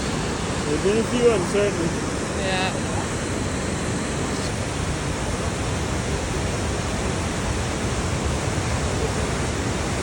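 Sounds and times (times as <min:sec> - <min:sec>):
rushing water: 0:00.0 - 0:10.0.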